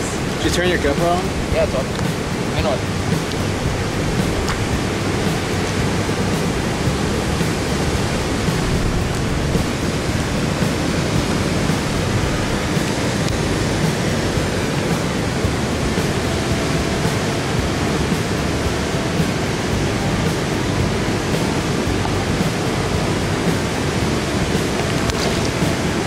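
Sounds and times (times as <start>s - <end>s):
turbulent water rushing: 0.0s - 26.0s.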